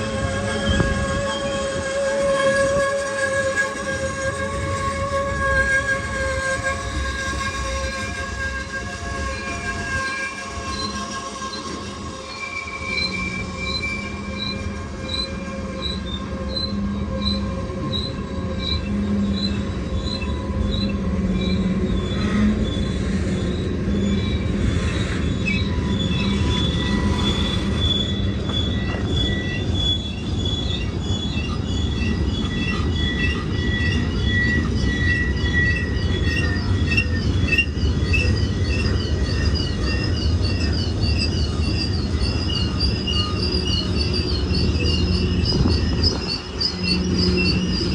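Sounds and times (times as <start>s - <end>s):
low rumble of train cars: 0.0s - 47.9s
warbling high squeal: 0.0s - 47.9s
brake shoes squealing: 7.0s - 47.9s.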